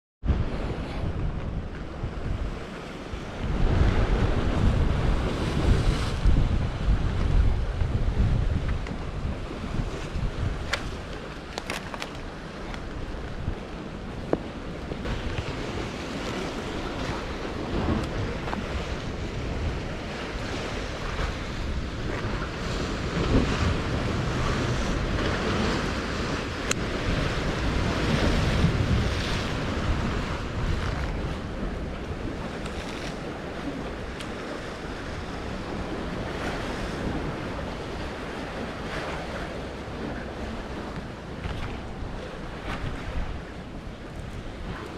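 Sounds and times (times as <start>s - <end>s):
wind buffeting microphone: 0.2s - 44.9s
sea waves washing: 0.3s - 44.9s.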